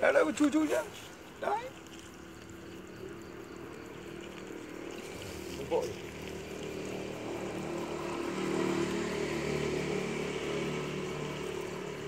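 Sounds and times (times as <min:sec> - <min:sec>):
small engine running: 0:01.2 - 0:12.0.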